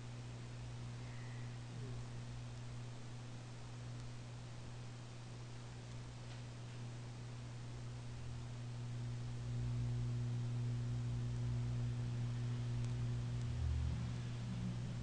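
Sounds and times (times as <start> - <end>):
mains hum: 0.0 - 15.0.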